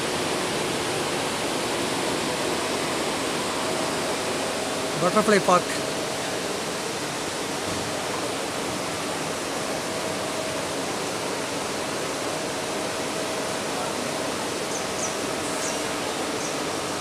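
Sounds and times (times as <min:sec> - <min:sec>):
steady rushing noise: 0:00.0 - 0:14.5.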